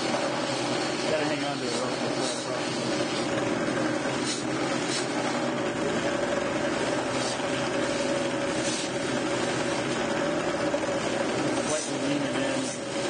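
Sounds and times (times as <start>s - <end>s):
abrasive threads hissing on wood: 0.0s - 13.0s
sanding mop humming: 0.0s - 13.0s.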